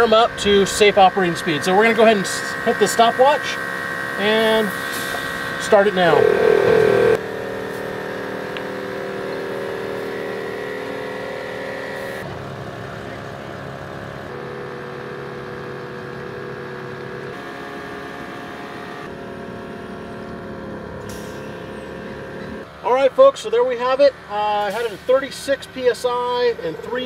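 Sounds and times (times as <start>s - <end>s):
air compressor droning hum: 0.0s - 23.0s, 23.8s - 27.0s.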